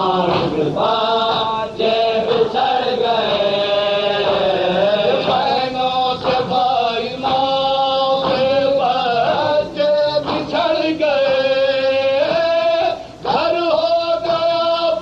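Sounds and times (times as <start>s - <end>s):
men chanting lamentation: 0.0s - 15.0s.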